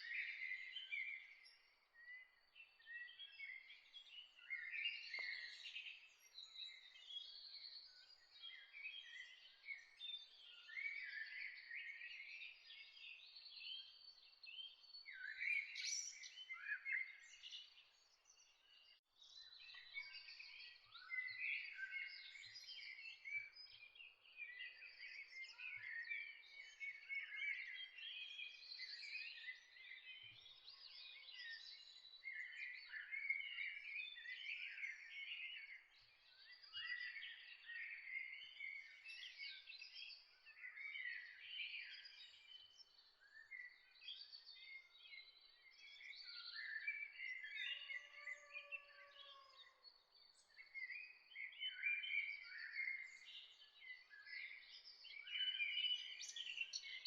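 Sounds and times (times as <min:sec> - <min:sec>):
birds chirping and singing: 0:00.0 - 0:57.0.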